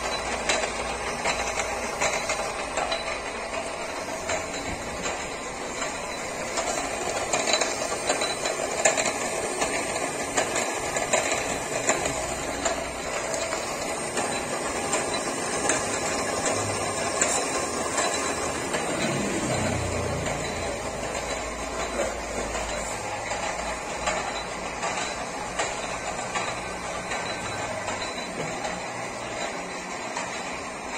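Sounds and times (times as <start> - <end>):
electric motors with gearing rattling: 0.0 - 30.9.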